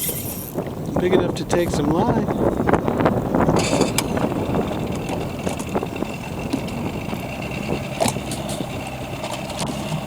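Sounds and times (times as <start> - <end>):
boat motor idling: 0.0 - 10.0.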